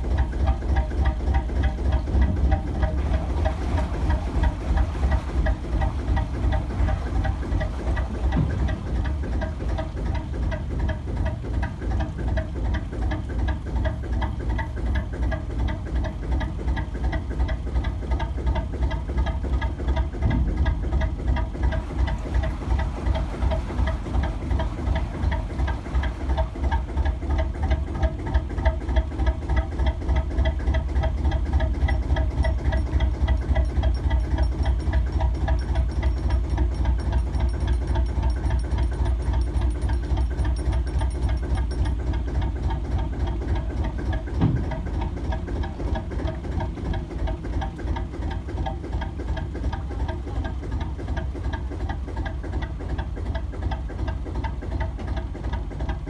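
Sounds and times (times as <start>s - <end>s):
diesel boat engine throbbing: 0.0s - 56.0s
engine knock: 0.0s - 56.0s.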